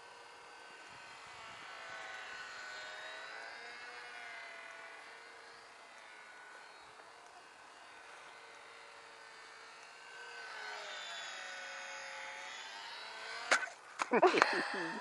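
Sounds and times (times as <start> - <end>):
model plane propeller buzzing: 0.0 - 15.0.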